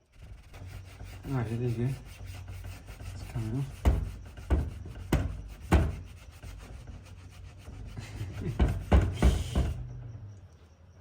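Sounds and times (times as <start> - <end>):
paint being rubbed off wood: 0.0 - 9.8.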